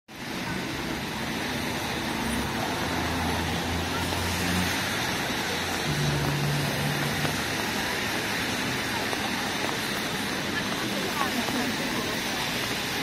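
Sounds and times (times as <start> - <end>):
rain hissing on street: 0.1 - 13.0
traffic hum: 0.1 - 13.0.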